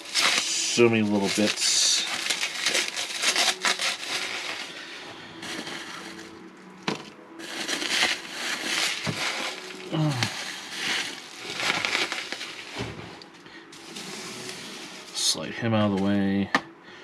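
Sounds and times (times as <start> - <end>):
plastic packaging crinkling: 0.0 - 15.3.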